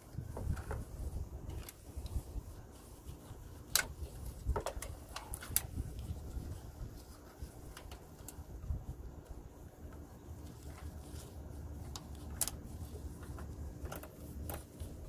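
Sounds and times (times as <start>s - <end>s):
gloved hands rustling: 0.0s - 15.0s
low steady rumble: 0.0s - 15.0s.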